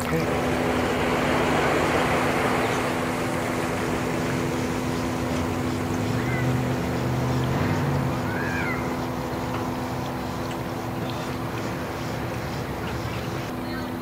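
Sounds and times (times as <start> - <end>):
outboard motor humming: 0.0 - 14.0
water wash: 0.0 - 14.0.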